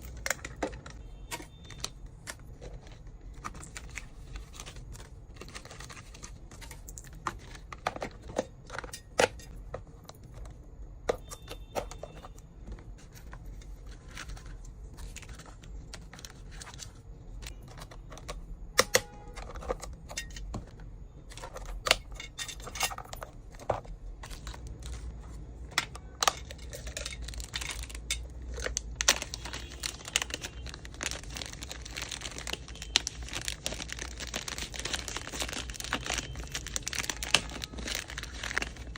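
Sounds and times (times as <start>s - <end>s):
plastic wrap crinkling: 0.0s - 18.0s, 21.4s - 38.9s
hard plastic pieces clicking: 0.0s - 38.9s.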